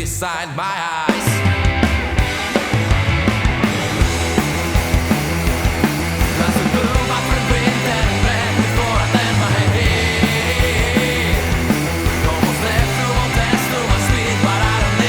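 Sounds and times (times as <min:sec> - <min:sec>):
drums keeping a beat: 0:00.0 - 0:15.0
bass guitar: 0:01.1 - 0:15.0
electric guitar: 0:01.1 - 0:15.0.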